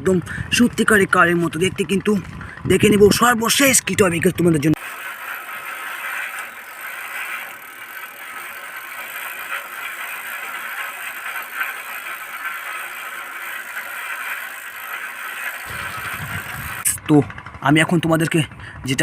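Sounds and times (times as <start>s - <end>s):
toy bicycle wheels rolling: 0.0s - 19.0s.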